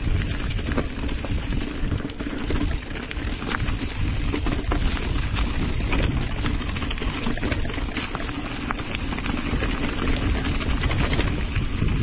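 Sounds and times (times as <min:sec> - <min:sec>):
bike clicks and rattles: 0:00.0 - 0:12.0
wind rumble on microphone: 0:00.0 - 0:12.0.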